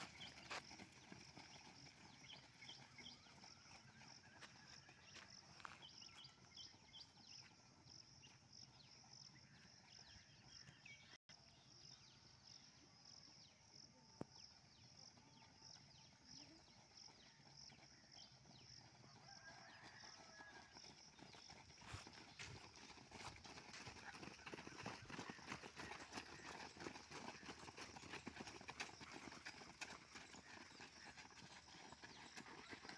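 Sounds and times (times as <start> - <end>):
runners' footfalls on dirt: 0.0 - 11.2, 14.5 - 32.9.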